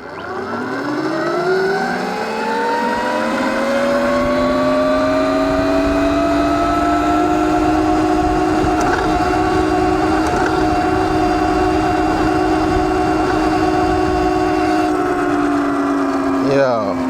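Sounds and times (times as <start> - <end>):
electric motor whining: 0.0 - 17.0
wind rushing over microphone: 2.9 - 17.0.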